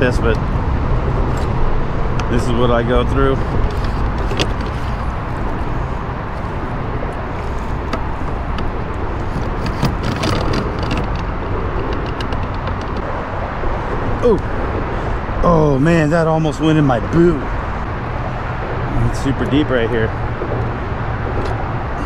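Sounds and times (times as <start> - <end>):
low rumbling noise: 0.0 - 22.0.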